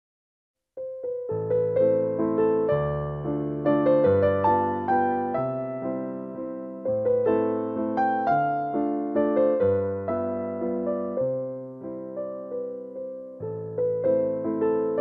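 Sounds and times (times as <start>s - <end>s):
gentle piano melody: 0.8s - 15.0s.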